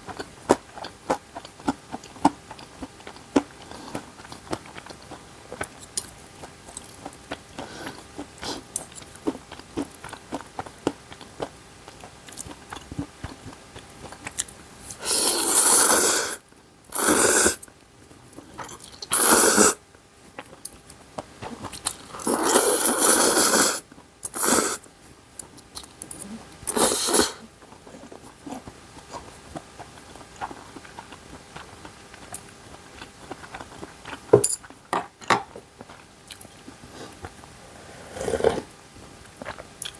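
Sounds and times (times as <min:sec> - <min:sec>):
chewing and biting: 0:00.0 - 0:15.9, 0:20.2 - 0:27.0, 0:27.6 - 0:37.6, 0:39.2 - 0:39.9.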